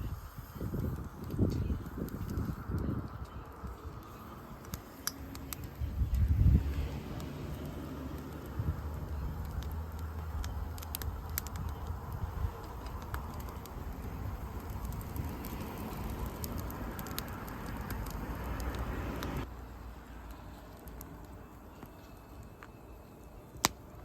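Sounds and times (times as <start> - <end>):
campfire crackling and popping: 0.0 - 24.0
low steady fire rumble: 0.0 - 24.0.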